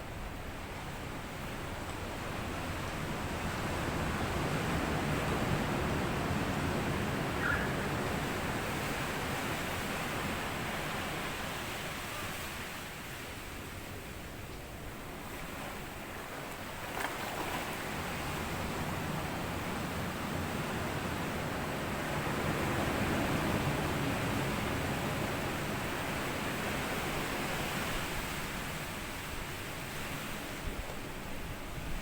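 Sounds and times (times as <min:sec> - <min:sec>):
waves washing onto sandy beach: 0:00.1 - 0:32.0.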